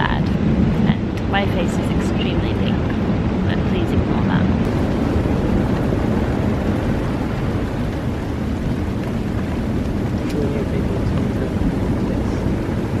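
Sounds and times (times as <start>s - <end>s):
heavy surf breaking: 0.0s - 13.0s
wind on microphone: 0.0s - 13.0s.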